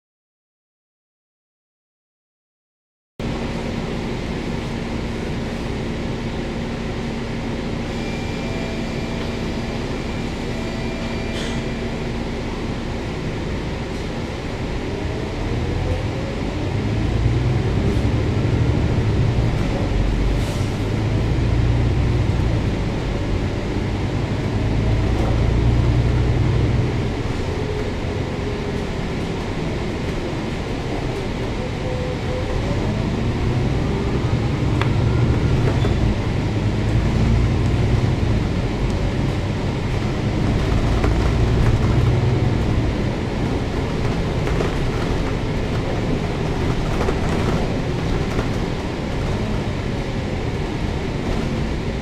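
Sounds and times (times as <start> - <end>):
bus diesel engine: 3.2 - 52.0.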